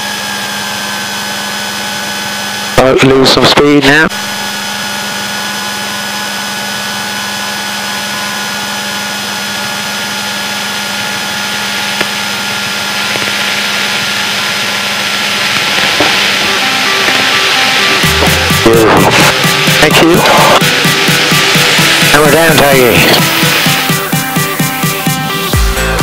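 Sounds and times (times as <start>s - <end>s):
aircraft engine droning: 0.0s - 26.0s.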